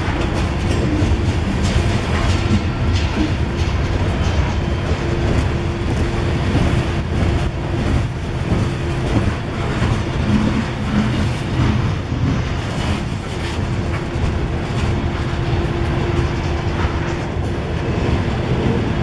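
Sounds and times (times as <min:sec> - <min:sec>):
diesel locomotive drone: 0:00.0 - 0:19.0
train rumble: 0:00.0 - 0:19.0.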